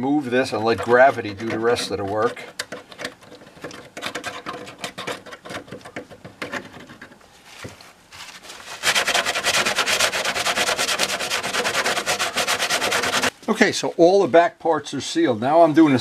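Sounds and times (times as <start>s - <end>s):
gloved hand rubbing fiberglass: 0.3s - 13.3s.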